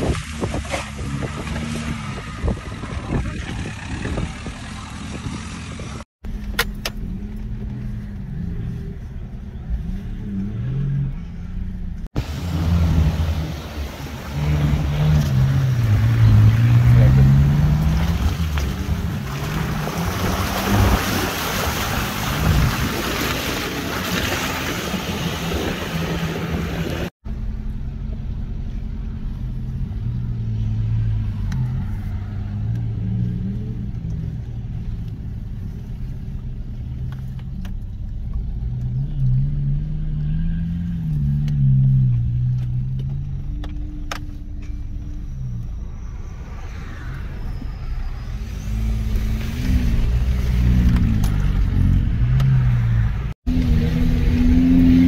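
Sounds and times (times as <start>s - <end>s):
off-road vehicle engine under load: 0.0s - 55.0s.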